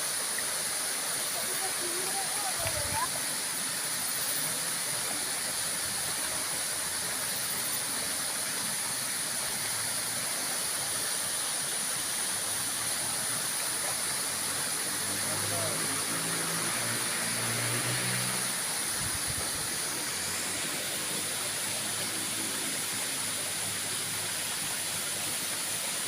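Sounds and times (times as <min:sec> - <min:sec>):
high hiss: 0:00.0 - 0:26.0
waterfall rushing: 0:00.0 - 0:26.0.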